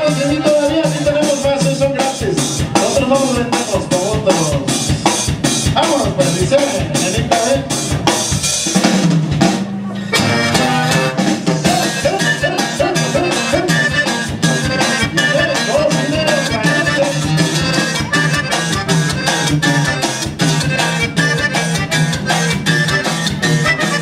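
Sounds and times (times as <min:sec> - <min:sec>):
band playing latin music: 0:00.0 - 0:24.0
drum-kit beat: 0:00.0 - 0:24.0.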